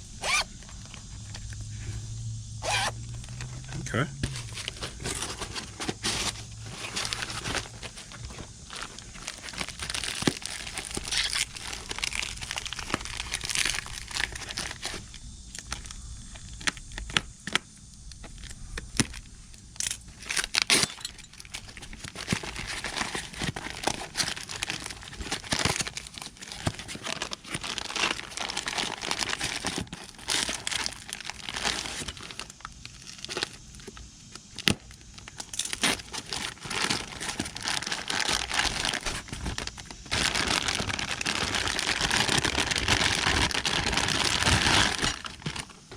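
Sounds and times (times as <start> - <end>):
packaging wrap crinkling and tearing: 0.0 - 1.6, 4.2 - 17.6, 18.4 - 33.6, 34.5 - 45.9.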